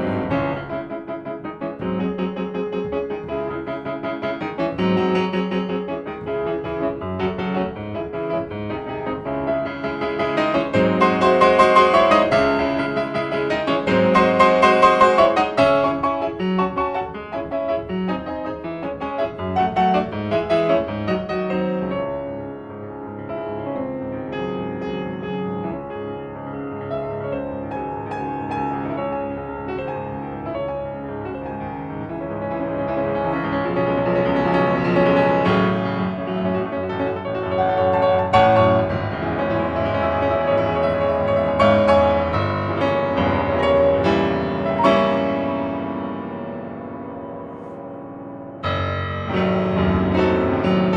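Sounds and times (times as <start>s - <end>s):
piano music: 0.0s - 50.9s.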